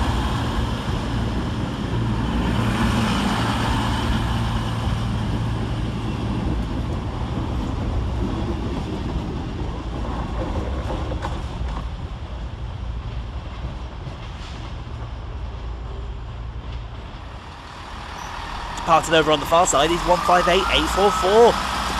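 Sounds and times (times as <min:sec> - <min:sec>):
train engine humming: 0:00.0 - 0:21.9.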